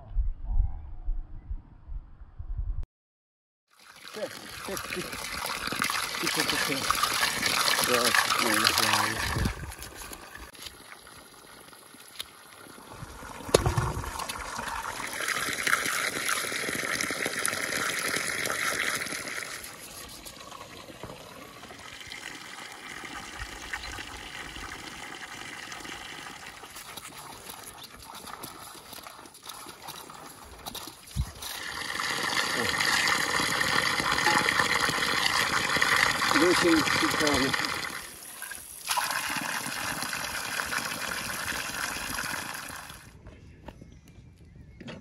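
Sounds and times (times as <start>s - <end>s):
water running from pipe spout: 3.7s - 43.1s.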